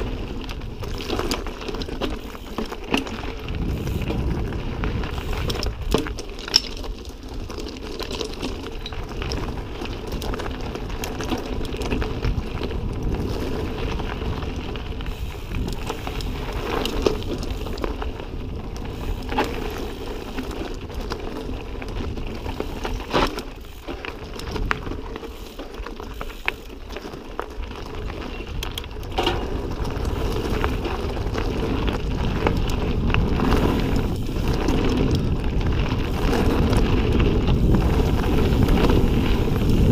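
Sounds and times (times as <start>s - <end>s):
bike clacking and rattling on rocks: 0.0s - 39.9s
bike tyres on dirt and rock: 0.0s - 39.9s
wind rumble on microphone: 0.0s - 39.9s.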